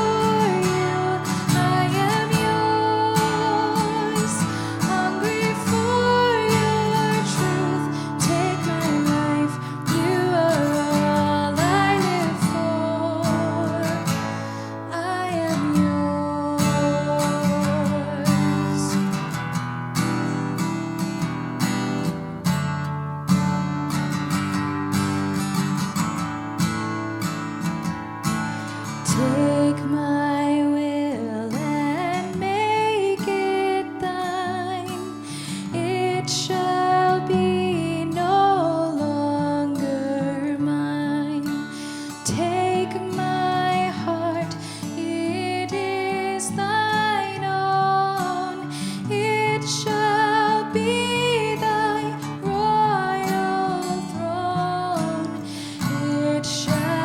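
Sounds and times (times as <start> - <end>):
person singing: 0.0 - 14.3, 14.9 - 19.1, 29.1 - 57.0
acoustic guitar strumming: 0.0 - 57.0.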